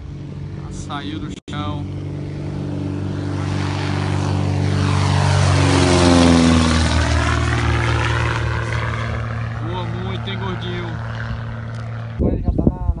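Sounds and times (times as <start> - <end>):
propeller aircraft engine: 0.0 - 12.6.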